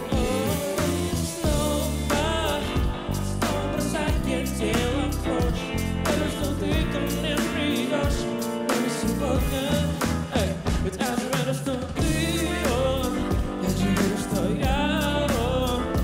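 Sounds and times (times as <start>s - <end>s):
live band with bass and beat: 0.0s - 16.0s
person singing: 0.0s - 16.0s.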